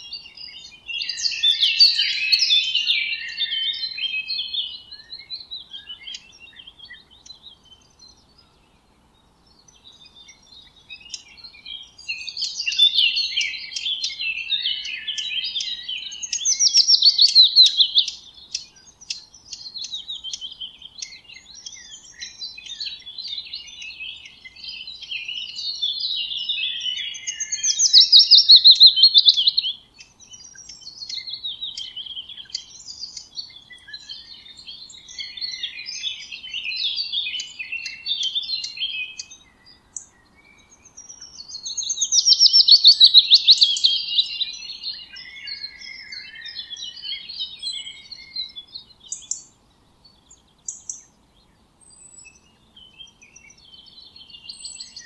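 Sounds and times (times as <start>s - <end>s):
songbird loud downward trills: 0.0s - 8.6s, 9.6s - 51.1s
birds twittering and chirping: 0.0s - 55.0s.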